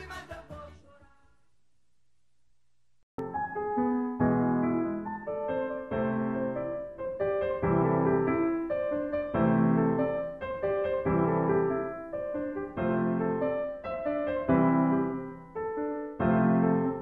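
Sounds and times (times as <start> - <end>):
slow piano chords: 3.2 - 17.0.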